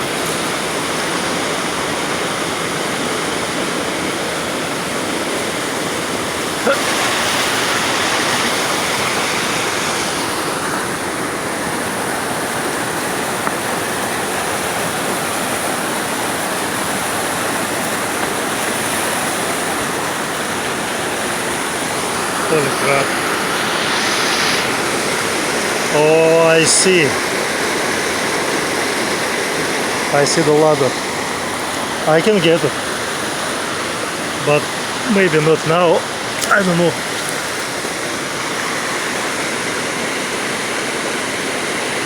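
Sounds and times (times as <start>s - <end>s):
rushing river water: 0.0s - 42.0s.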